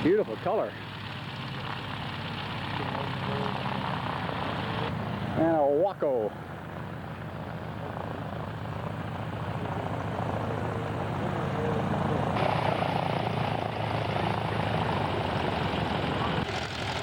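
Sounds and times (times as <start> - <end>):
propeller aircraft engine: 0.0 - 17.0.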